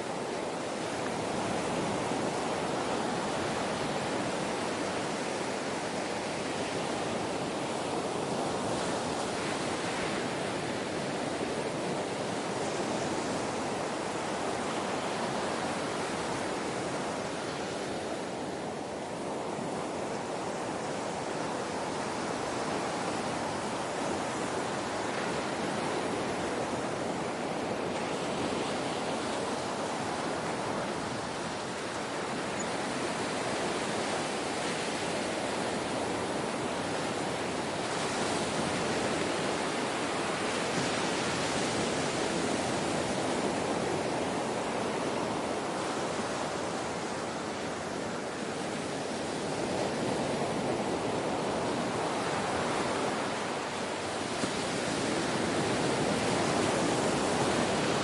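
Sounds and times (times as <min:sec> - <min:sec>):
ocean surf washing in: 0:00.0 - 0:58.0.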